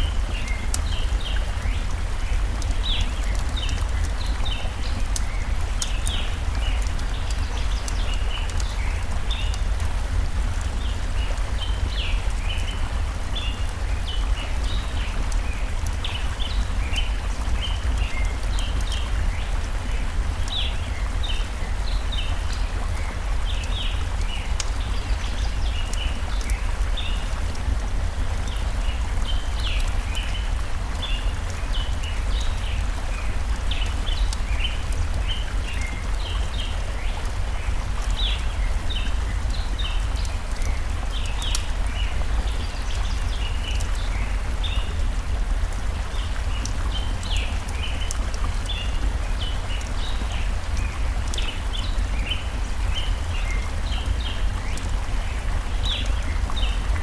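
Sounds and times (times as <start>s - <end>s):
faint fire crackles: 0.0s - 57.0s
small birds chirping: 0.0s - 57.0s
stream flowing: 0.0s - 57.0s.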